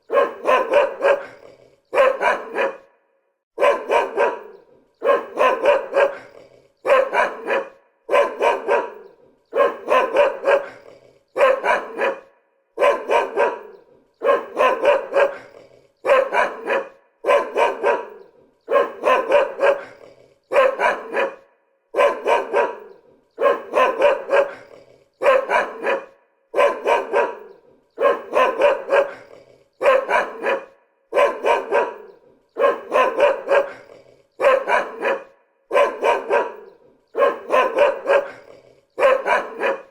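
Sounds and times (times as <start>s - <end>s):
dog barking: 0.0s - 39.9s.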